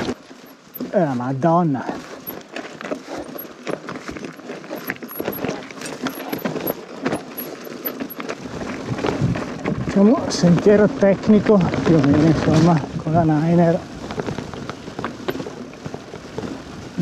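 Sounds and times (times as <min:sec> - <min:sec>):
mountain bike rattling on trail: 0:00.0 - 0:17.0.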